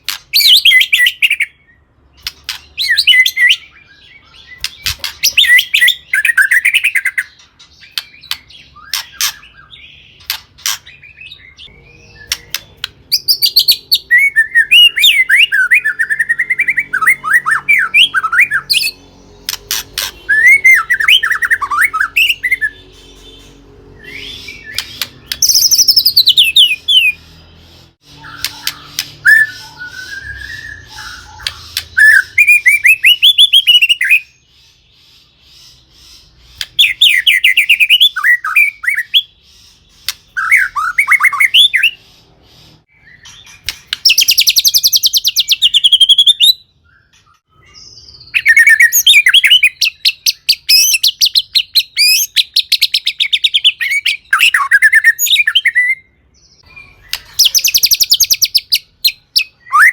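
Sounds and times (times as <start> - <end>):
songbird whistling and trilling: 0.0 - 59.9.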